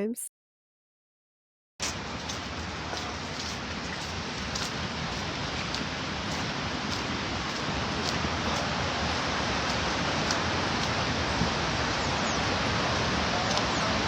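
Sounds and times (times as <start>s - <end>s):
river rapids rushing: 2.0s - 14.0s.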